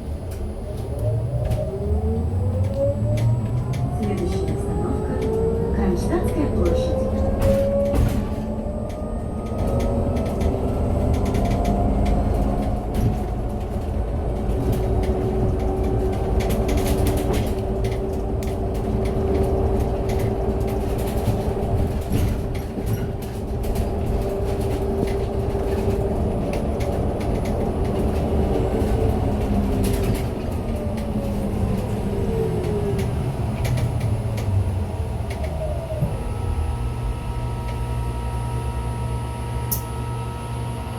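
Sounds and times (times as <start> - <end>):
road noise rumble: 0.0 - 40.9.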